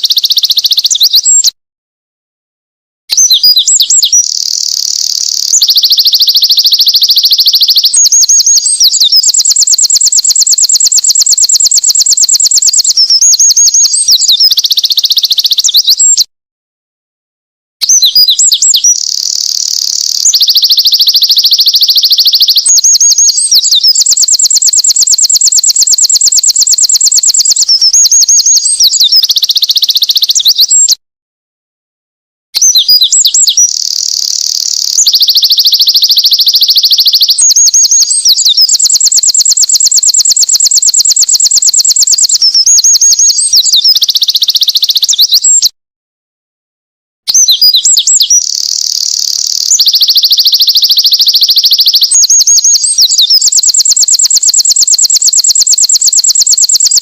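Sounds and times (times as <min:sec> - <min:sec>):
wren singing trills: 0:00.0 - 0:01.6, 0:03.1 - 0:16.3, 0:17.8 - 0:31.0, 0:32.6 - 0:45.7, 0:47.3 - 0:57.0.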